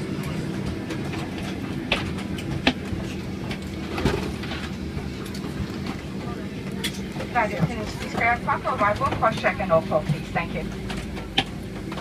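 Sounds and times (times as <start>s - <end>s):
jet engines idling rumble: 0.0s - 12.0s.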